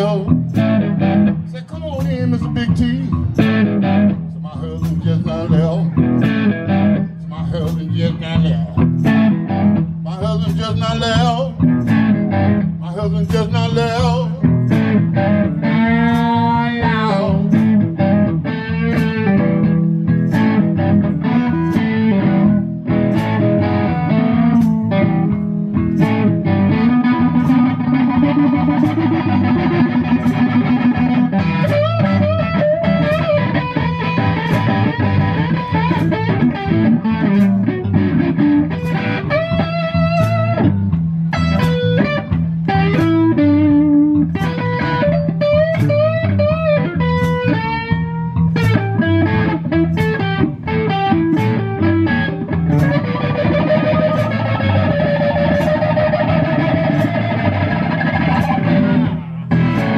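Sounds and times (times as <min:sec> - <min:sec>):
electric bass: 0:00.0 - 0:59.9
electric blues guitar lead: 0:00.0 - 0:59.9
steady drum beat: 0:00.0 - 0:59.9.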